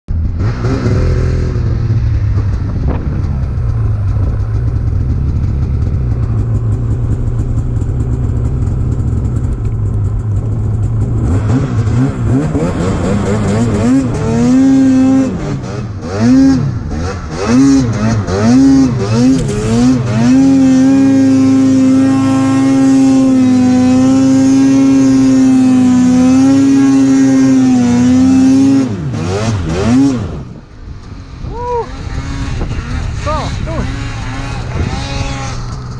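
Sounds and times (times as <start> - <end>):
snowmobile engine revving: 0.2 - 30.7, 31.3 - 35.9.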